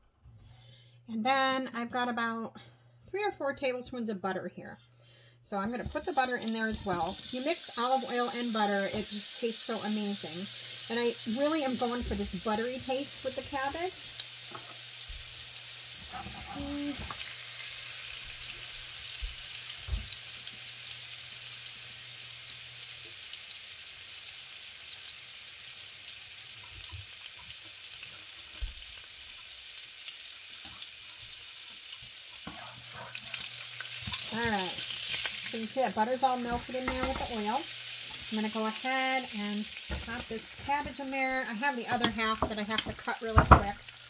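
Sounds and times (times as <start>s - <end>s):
butter sizzling in a pan: 5.7s - 44.0s.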